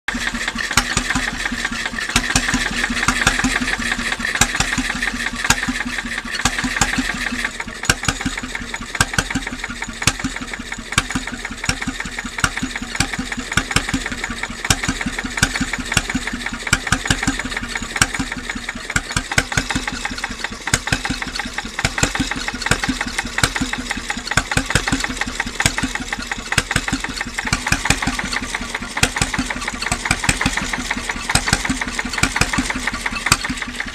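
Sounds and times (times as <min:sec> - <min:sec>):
marine engine knocking steadily: 0:00.1 - 0:33.9.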